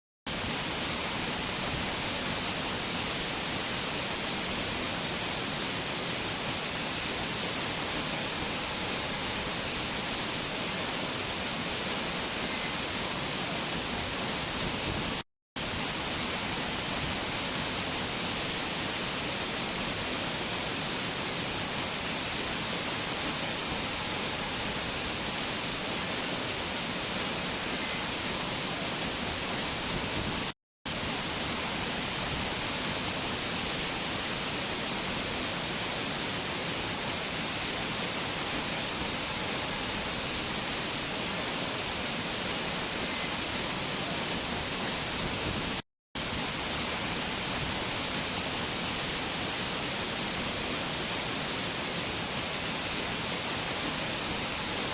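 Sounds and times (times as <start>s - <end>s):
waterfall rushing: 0.3s - 54.9s.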